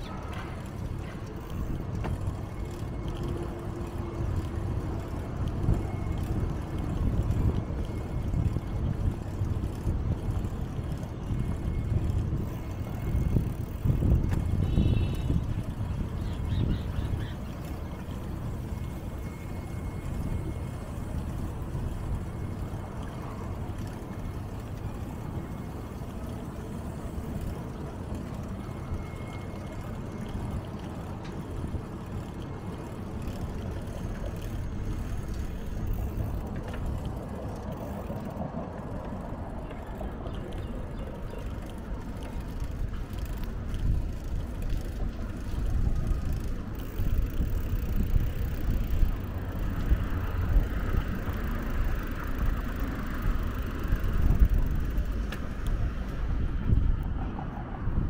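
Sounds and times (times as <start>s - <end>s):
road noise: 0.0s - 58.0s
wind rumbling on microphone: 0.0s - 58.0s.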